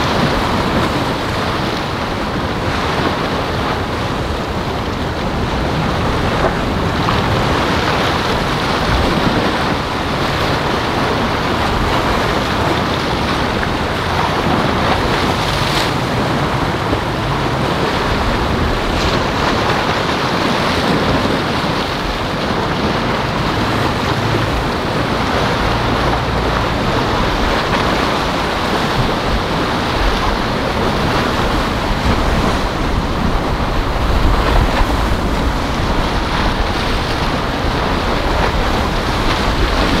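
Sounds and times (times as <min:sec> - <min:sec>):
sea surf washing: 0:00.0 - 0:40.0
wind buffeting microphone: 0:00.0 - 0:40.0.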